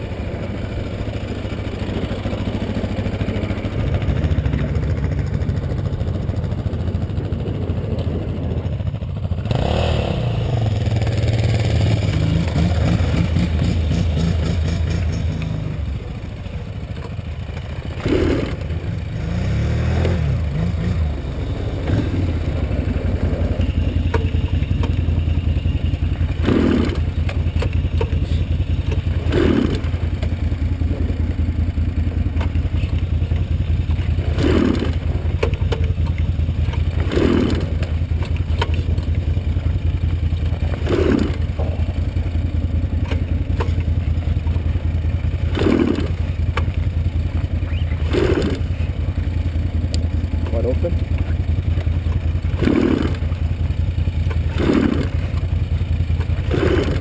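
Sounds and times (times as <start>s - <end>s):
two-stroke engine idling and revving: 0.0s - 57.0s.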